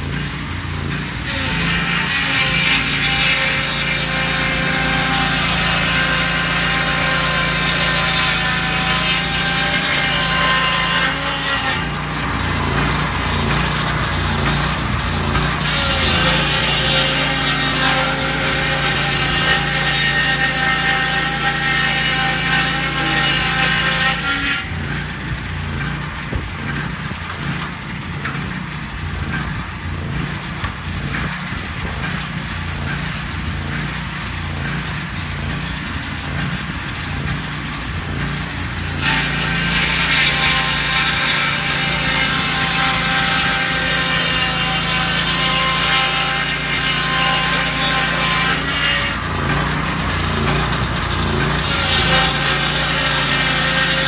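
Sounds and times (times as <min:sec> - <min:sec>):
circular saw cutting log: 0:00.0 - 0:54.0.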